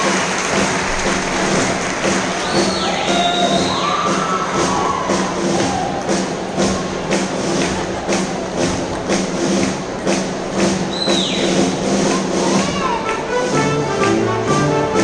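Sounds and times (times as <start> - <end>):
marching band music: 0.0 - 15.0.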